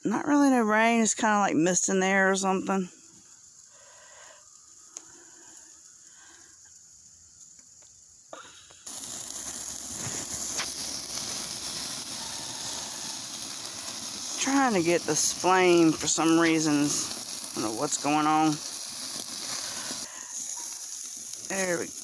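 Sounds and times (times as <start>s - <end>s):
steaks sizzling on a grill: 0.0s - 22.0s.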